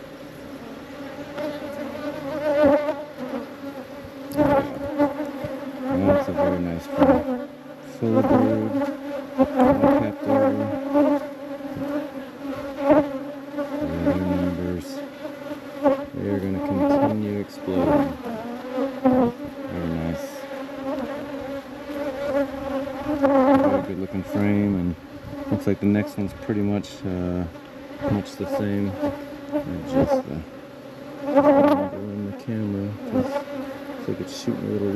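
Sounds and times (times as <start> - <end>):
bees buzzing: 0.0 - 34.9.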